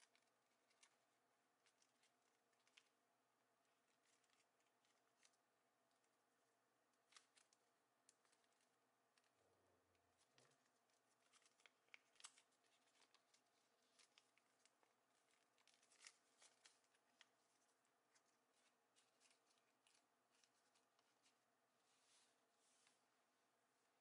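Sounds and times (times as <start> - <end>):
paper crinkling and creasing: 0.0 - 3.0, 3.9 - 5.4, 7.0 - 9.3, 10.1 - 23.1.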